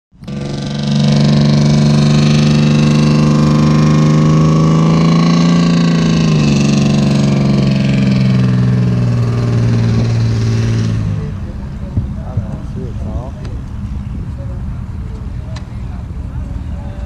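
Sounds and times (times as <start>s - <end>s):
engine running: 0.1s - 17.0s.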